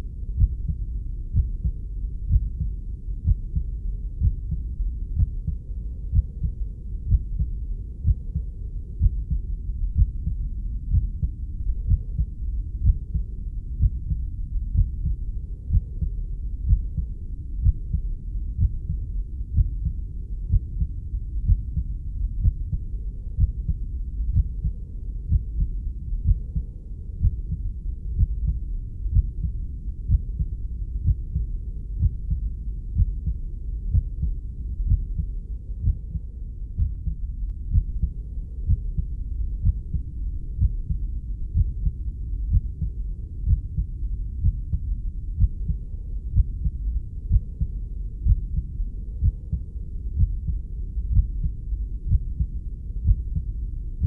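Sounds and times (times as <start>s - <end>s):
constant low rumble: 0.0s - 54.0s
low dull heartbeat thumps: 0.0s - 54.0s.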